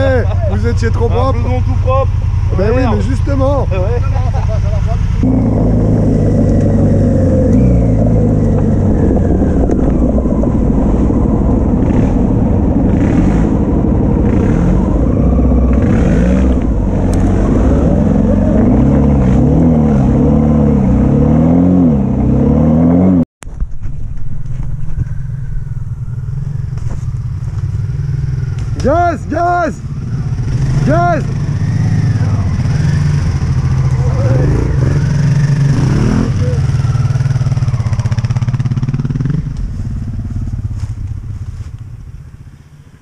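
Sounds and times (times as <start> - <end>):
motorcycles approaching: 0.0 - 23.2, 24.4 - 43.0
motorcycle engine revving: 0.0 - 23.3, 25.0 - 43.0.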